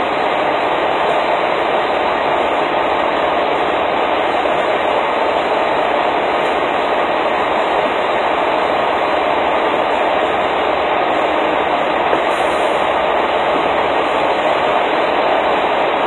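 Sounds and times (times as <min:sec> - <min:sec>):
fuel pump rushing noise: 0:00.0 - 0:16.0.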